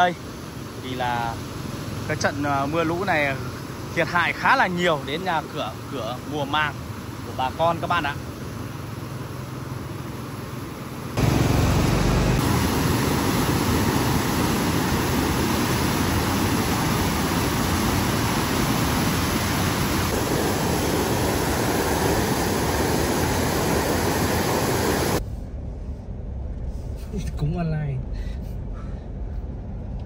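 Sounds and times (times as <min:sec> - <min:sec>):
stream rushing loudly: 0:00.0 - 0:09.3, 0:09.9 - 0:25.2.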